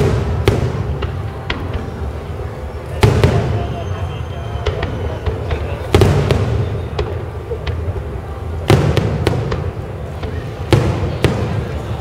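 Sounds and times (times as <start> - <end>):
firework booms: 0.0 - 2.0, 2.9 - 4.0, 4.6 - 12.0
firework cracks and pops: 0.0 - 2.1, 2.8 - 3.9, 4.5 - 12.0.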